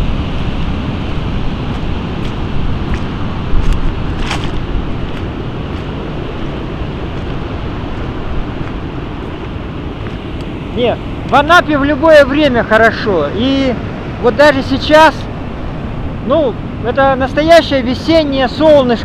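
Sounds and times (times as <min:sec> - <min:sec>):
surf breaking on stony beach: 0:00.0 - 0:19.0
wind buffeting microphone: 0:00.0 - 0:19.0.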